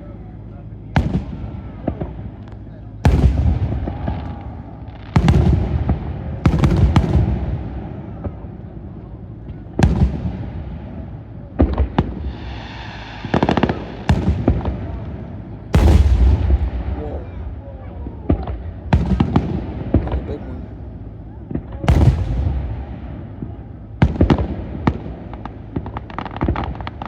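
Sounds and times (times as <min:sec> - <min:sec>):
fireworks banging: 0:00.8 - 0:27.0.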